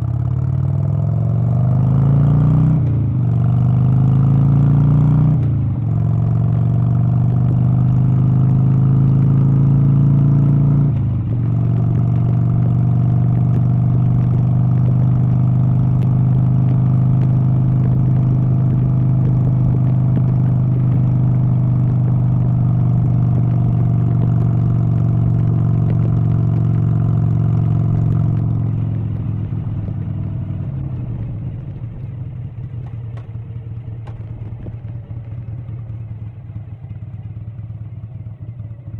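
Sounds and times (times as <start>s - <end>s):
vehicle engine running under load: 0.0s - 38.9s.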